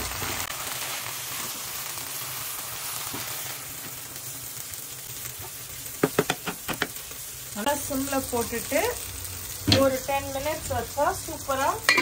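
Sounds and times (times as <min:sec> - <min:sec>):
rice pot sizzling hiss: 0:00.0 - 0:12.0.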